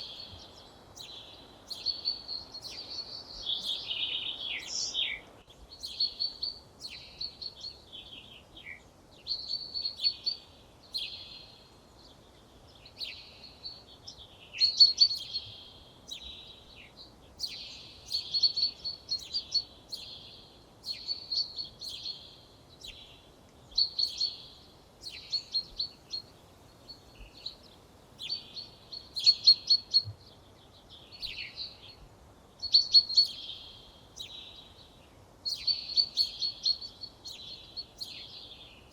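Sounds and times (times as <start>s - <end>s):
songbird twittering: 0.0s - 11.6s, 14.5s - 16.8s, 17.4s - 32.0s, 32.6s - 38.9s.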